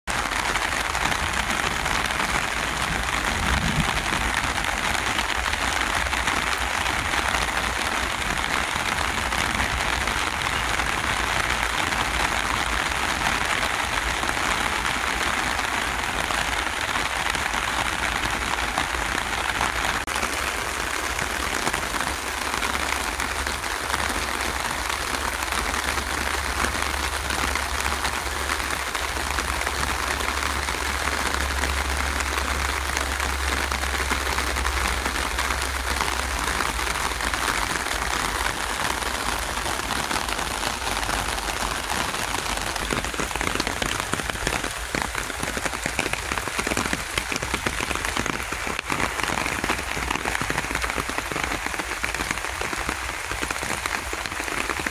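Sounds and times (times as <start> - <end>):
steady rain on plants: 0.1 - 54.9.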